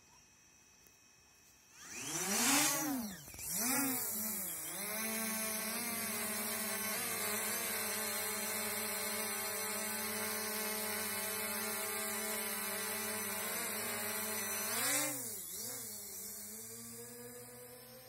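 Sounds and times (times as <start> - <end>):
drone propellers whining: 1.7 - 18.0.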